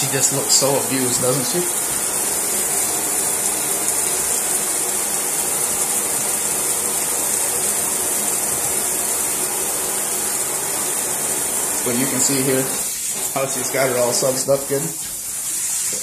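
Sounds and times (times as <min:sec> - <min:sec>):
water running into bathtub: 0:00.0 - 0:16.0.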